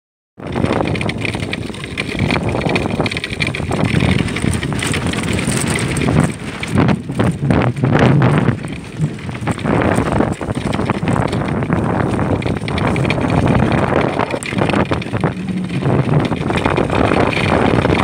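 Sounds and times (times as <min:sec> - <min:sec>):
wind buffeting microphone: 0:00.4 - 0:18.0.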